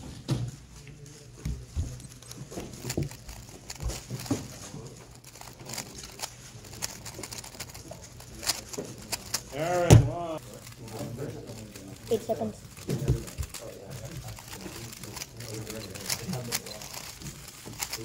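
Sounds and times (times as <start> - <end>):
plastic puzzle cube clicking: 2.2 - 4.6, 5.2 - 9.7, 10.4 - 18.0.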